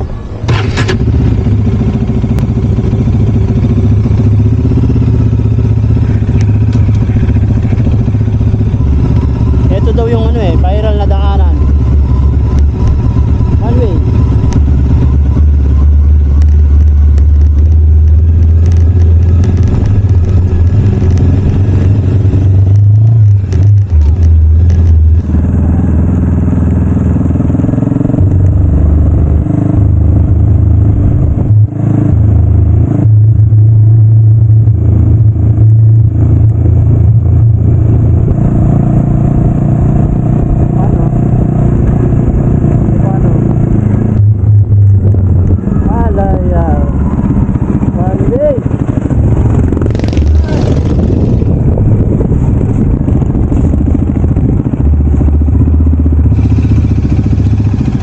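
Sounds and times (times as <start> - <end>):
motorcycle engine running: 0.0 - 58.0
wind rumble on microphone: 10.4 - 58.0.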